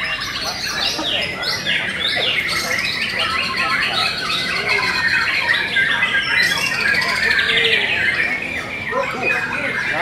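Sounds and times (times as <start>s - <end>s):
other birds singing: 0.0s - 10.0s.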